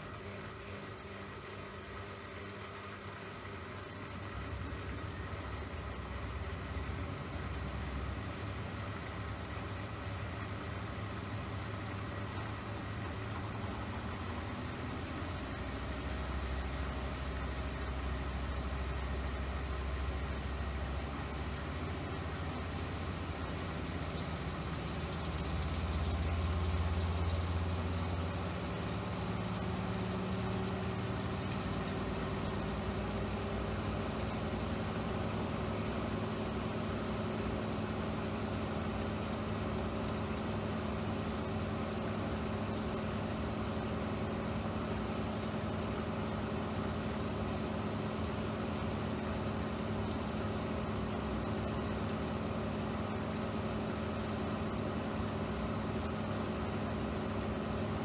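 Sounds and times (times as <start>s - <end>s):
engine running: 4.1s - 58.0s.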